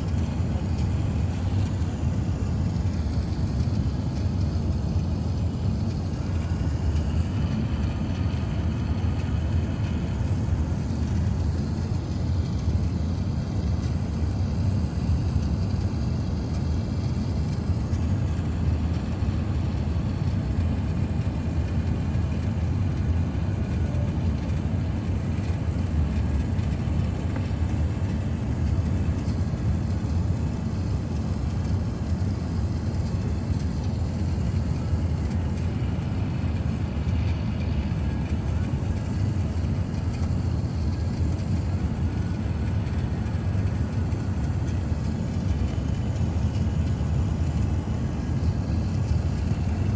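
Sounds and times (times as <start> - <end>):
aircraft cabin engine and airflow rumble: 0.0 - 49.9.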